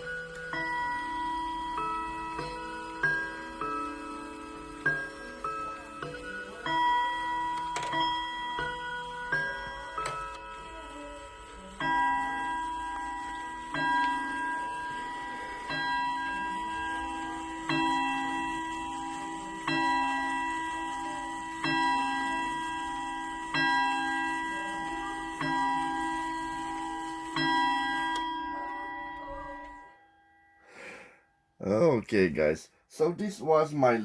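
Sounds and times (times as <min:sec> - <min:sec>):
clock striking bell-like strikes: 0:00.0 - 0:30.0.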